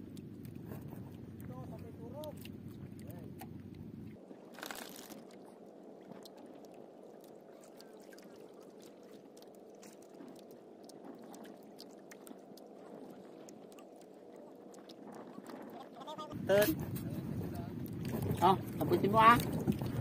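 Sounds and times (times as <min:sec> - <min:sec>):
small ticks and splashes: 0:00.0 - 0:16.2, 0:16.9 - 0:20.0
water lapping against boat hull: 0:00.0 - 0:20.0.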